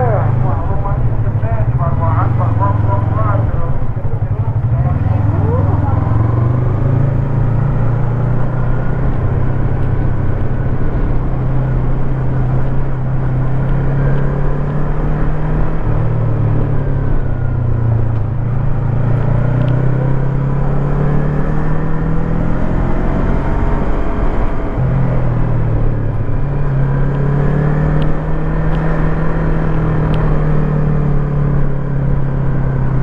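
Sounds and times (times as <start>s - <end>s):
motorcycle engine running: 0.0s - 33.0s
road and wind noise: 0.0s - 33.0s.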